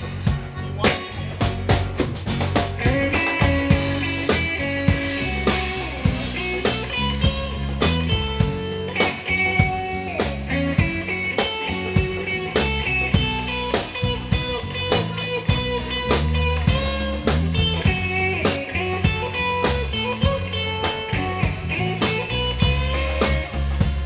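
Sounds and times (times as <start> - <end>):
live blues band playing: 0.0 - 24.0.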